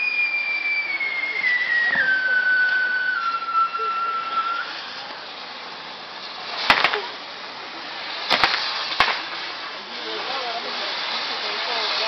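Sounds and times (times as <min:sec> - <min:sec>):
firecracker bangs: 0:00.0 - 0:09.8
hiss of spinning spark wheels: 0:00.0 - 0:12.0
whistling firework: 0:00.0 - 0:12.0.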